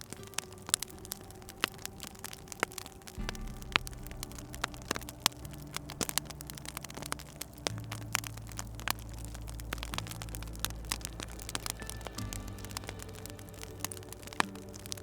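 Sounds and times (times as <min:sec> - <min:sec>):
low drone shifting pitch: 0:00.0 - 0:15.0
wood fire crackling: 0:00.0 - 0:15.0.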